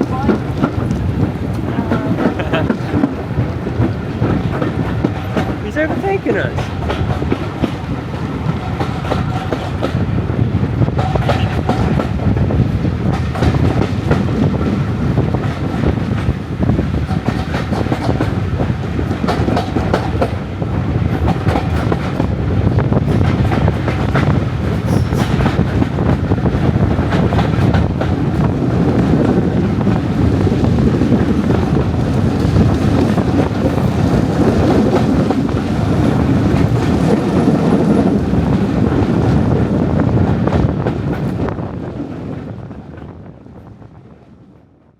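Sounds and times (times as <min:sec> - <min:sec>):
wheels clacking over rail joints: 0:00.0 - 0:10.1, 0:10.8 - 0:20.4, 0:21.0 - 0:41.6
diesel train rumble: 0:00.0 - 0:44.9.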